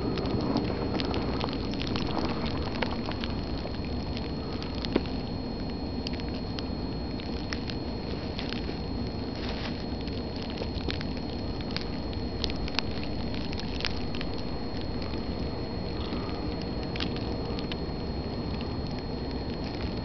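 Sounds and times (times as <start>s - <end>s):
faint crackles and ticks: 0.0s - 20.0s
faint high whine: 0.0s - 20.0s
low rumbling noise: 0.0s - 20.0s.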